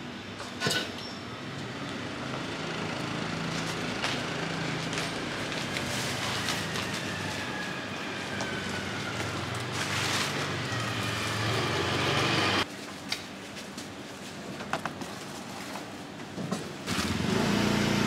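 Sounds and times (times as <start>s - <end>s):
street ambience: 0.0s - 18.0s.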